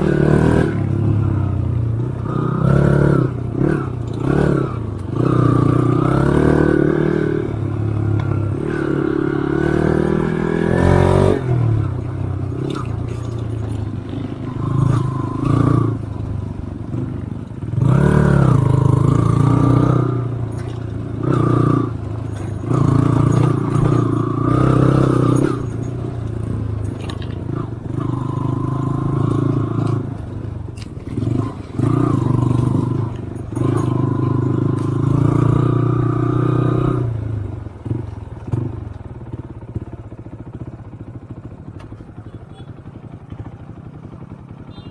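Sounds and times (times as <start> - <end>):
bike scraping and rattling: 0.0 - 40.4
motorcycle engine revving: 0.0 - 44.9.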